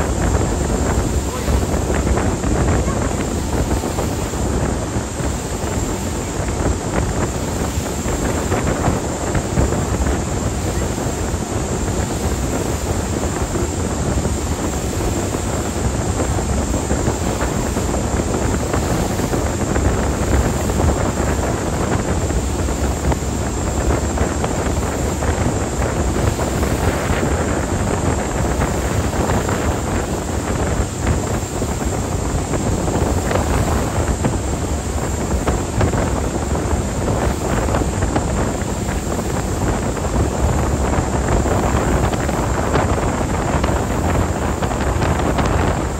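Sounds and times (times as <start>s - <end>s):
ferry engines and water rushing: 0.0s - 45.9s
wind buffeting microphone: 0.0s - 45.9s.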